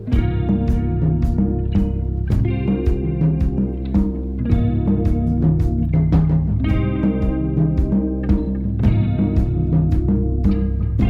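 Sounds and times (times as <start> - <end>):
bass guitar: 0.0 - 11.0
percussion hits: 0.0 - 11.0
plucked guitar: 0.0 - 11.0.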